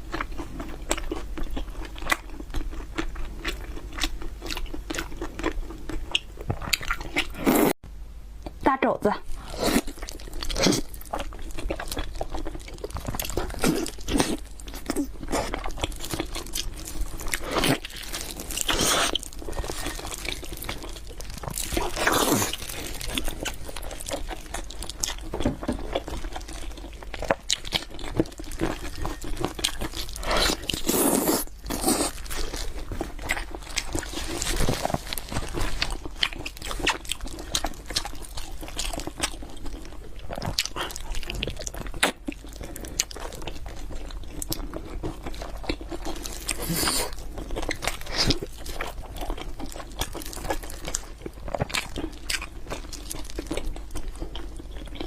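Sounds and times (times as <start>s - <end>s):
person biting and crunching food: 9.4s - 55.0s
wet chewing: 9.6s - 55.0s.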